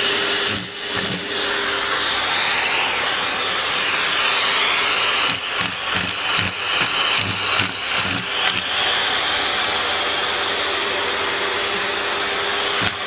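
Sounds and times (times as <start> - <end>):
vacuum cleaner whine: 0.0 - 13.0.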